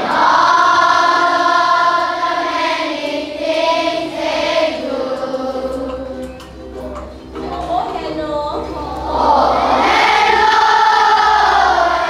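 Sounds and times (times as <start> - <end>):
children singing in chorus: 0.0 - 7.7, 8.6 - 12.0.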